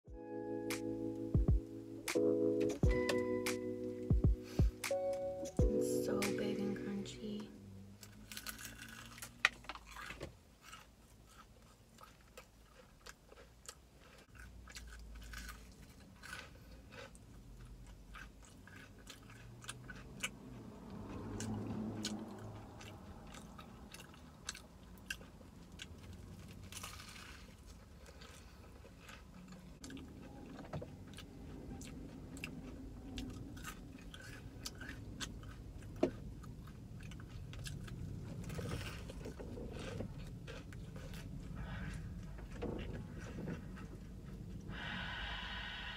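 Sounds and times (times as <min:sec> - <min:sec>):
crunching and chewing fried chicken: 0:07.9 - 0:44.7.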